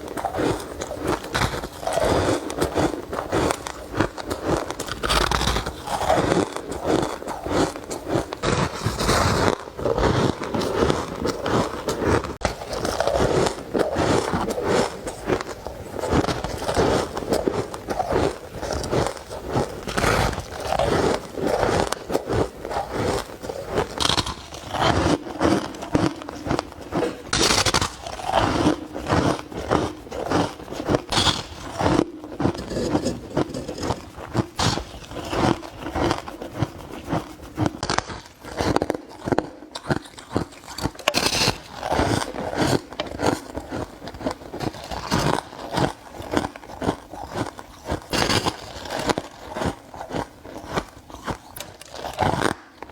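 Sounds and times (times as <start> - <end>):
ice crunching being chewed: 0.0 - 52.9.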